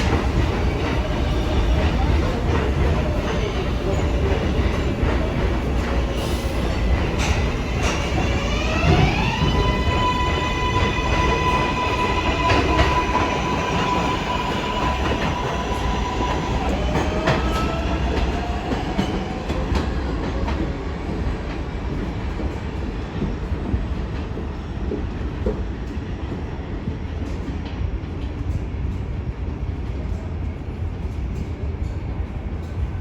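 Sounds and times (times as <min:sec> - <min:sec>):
wheel and rail rumble: 0:00.0 - 0:29.0
subway train electric whine: 0:00.0 - 0:33.0.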